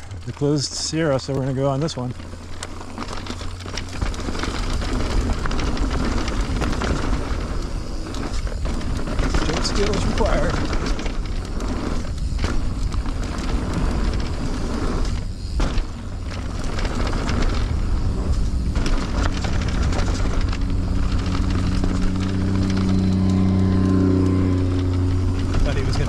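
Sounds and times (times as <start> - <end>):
bike rattling and knocking: 0.0 - 26.0
bike tyre noise on dirt: 0.0 - 26.0
steady low hum: 0.0 - 26.0
wind buffeting microphone: 0.0 - 26.0.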